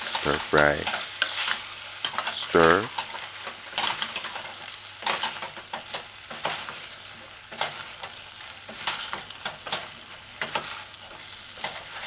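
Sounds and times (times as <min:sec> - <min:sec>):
food sizzling in a saucepan: 0:00.0 - 0:12.0.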